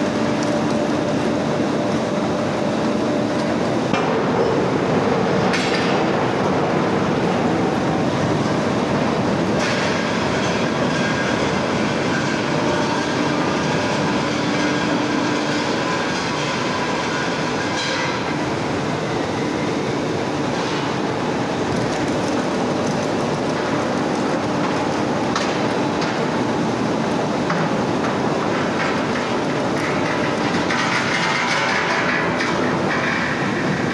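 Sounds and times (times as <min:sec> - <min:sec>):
heavy machinery running: 0:00.0 - 0:33.9.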